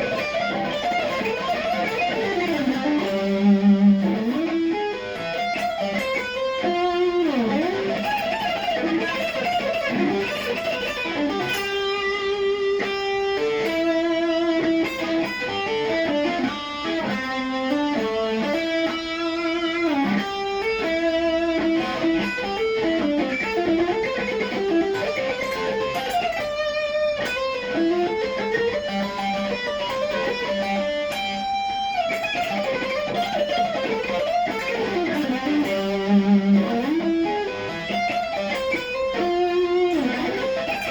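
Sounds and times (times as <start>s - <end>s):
electric guitar lead line: 0.0s - 40.9s.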